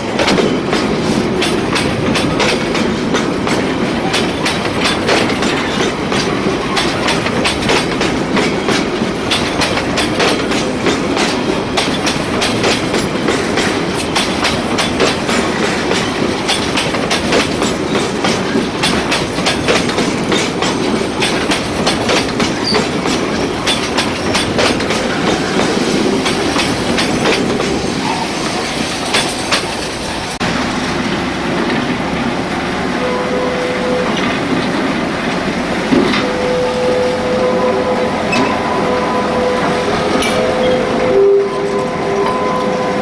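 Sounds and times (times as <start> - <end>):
steady train tone: 0.0 - 43.0
train wheels clicking over rail joints: 0.0 - 43.0.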